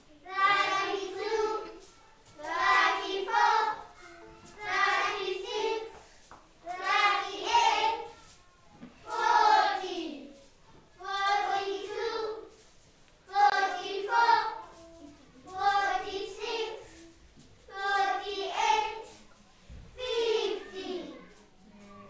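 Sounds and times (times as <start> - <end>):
children singing together: 0.2 - 8.4, 9.0 - 10.4, 11.0 - 12.6, 13.3 - 17.1, 17.7 - 19.3, 19.9 - 21.4.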